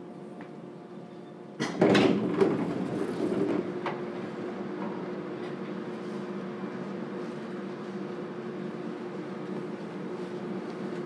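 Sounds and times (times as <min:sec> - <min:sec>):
train low hum: 0:00.0 - 0:01.7, 0:02.3 - 0:11.0.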